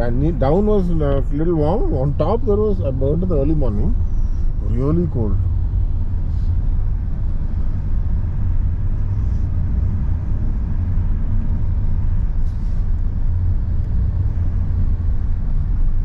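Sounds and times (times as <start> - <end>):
car interior road and engine rumble: 0.0 - 16.0.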